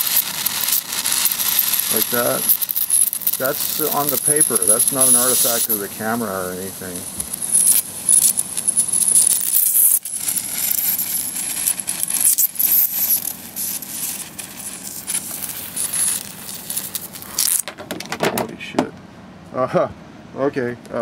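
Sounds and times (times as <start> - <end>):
electric arcs crackling: 0.0 - 17.8
high steady electronic whine: 0.0 - 20.7.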